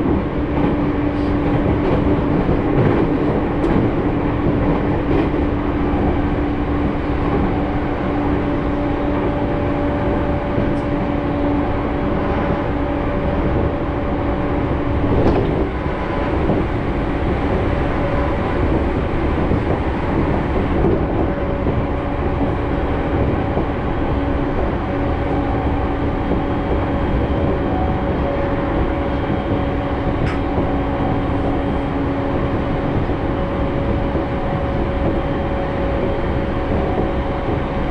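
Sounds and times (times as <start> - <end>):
steady train hum: 0.0 - 37.9
train wheels rumbling on track: 0.0 - 37.9.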